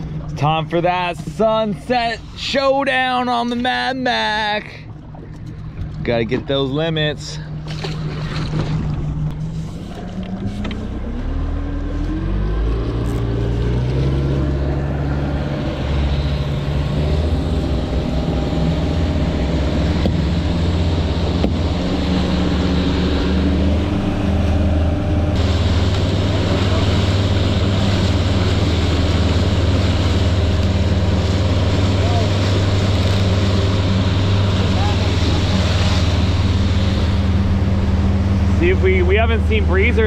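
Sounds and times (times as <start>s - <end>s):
outboard motor throttling up: 0.0s - 40.0s
water rushing along hull: 0.0s - 40.0s.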